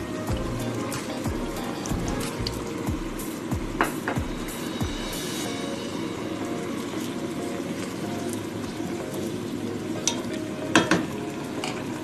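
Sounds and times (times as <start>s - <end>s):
food sizzling in pot: 0.0s - 12.0s.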